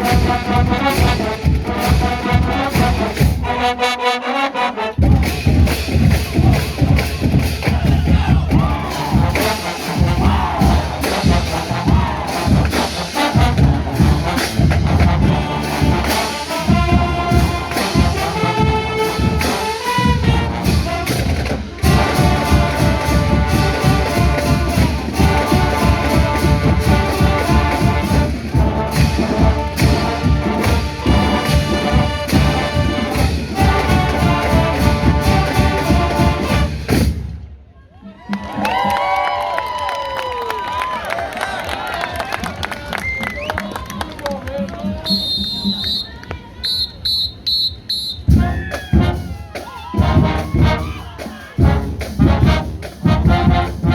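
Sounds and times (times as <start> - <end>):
drums and cymbals beat: 0.0 - 3.7, 4.9 - 37.6, 42.2 - 53.9
marching band brass tune: 0.0 - 37.7, 38.3 - 53.9.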